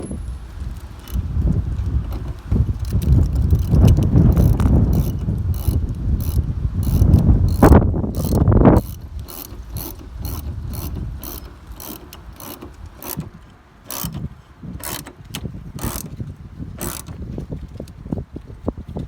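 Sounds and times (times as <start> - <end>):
hand ratchet clicking: 0.8 - 16.2, 16.8 - 17.2.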